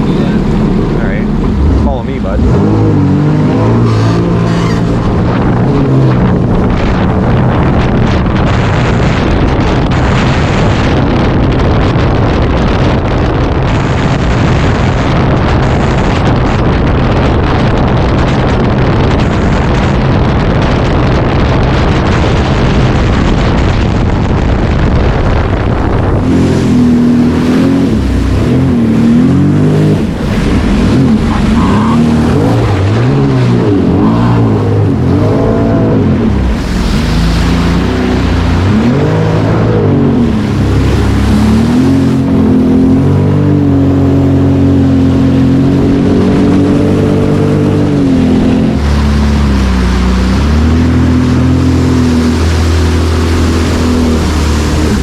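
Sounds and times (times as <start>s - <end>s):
personal watercraft engine revving: 0.0s - 55.0s
wind and water rushing: 0.0s - 55.0s.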